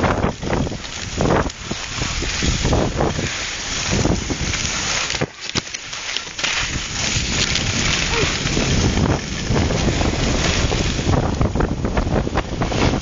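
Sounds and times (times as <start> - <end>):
wind rushing over microphone: 0.0 - 5.3, 6.6 - 13.0
skis hissing over snow: 0.0 - 13.0.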